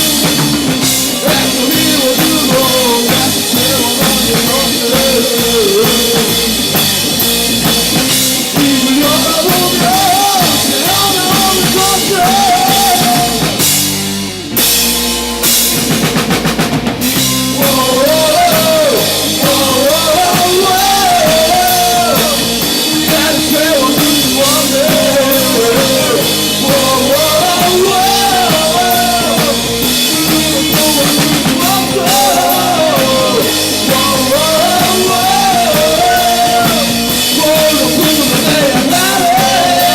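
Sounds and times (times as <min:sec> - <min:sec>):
drum strikes: 0:00.0 - 0:39.9
rock band playing: 0:00.0 - 0:39.9.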